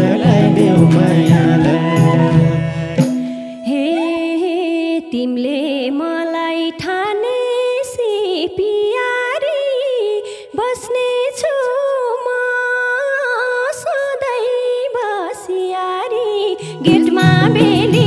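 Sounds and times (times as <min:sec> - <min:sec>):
woman singing folk melody: 0:03.2 - 0:18.0.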